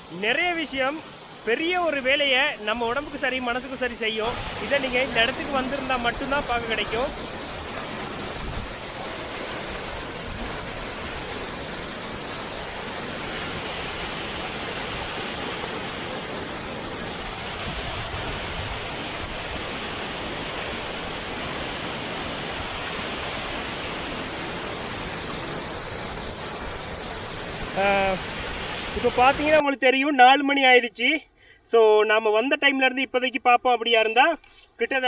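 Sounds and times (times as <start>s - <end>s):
waterfall rushing: 0.0s - 29.6s.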